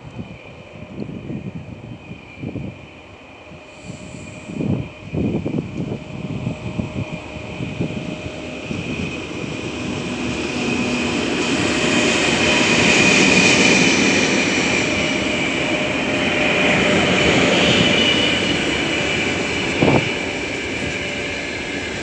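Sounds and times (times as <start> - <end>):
electric locomotives passing: 0.0 - 22.0.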